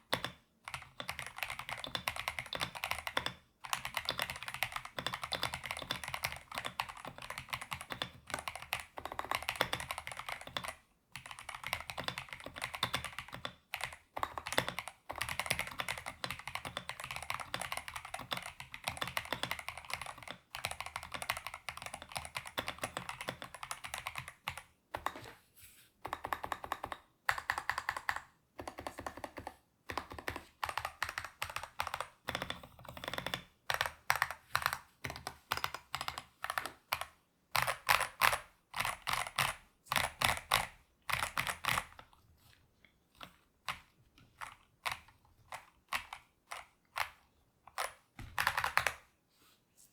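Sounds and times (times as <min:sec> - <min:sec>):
fast typing on mechanical keyboard: 0:00.0 - 0:25.2, 0:26.1 - 0:42.1, 0:43.2 - 0:49.1.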